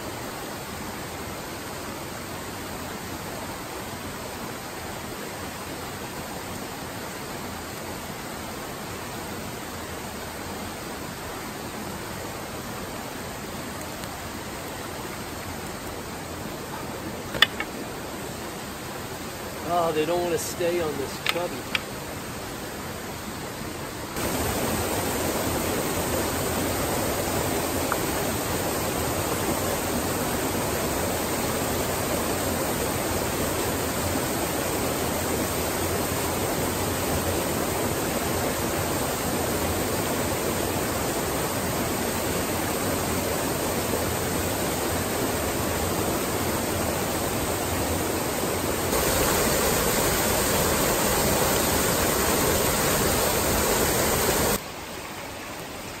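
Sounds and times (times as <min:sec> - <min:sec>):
water rushing over waterfall: 0:00.0 - 0:56.0.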